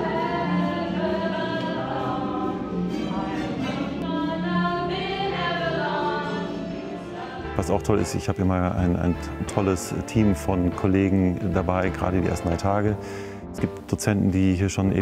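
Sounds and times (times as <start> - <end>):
voices singing in harmony: 0.0 - 12.6.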